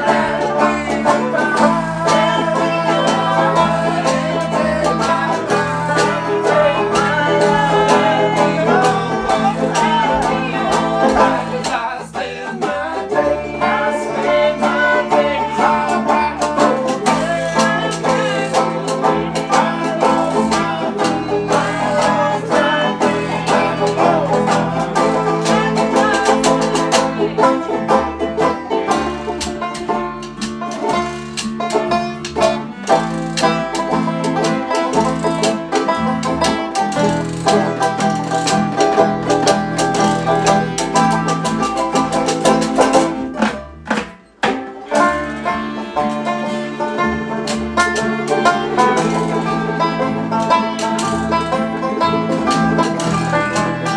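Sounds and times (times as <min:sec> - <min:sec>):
bass line: 0:00.0 - 0:44.2, 0:44.9 - 0:53.9
banjo picking: 0:00.0 - 0:53.9
guitar: 0:00.0 - 0:53.9.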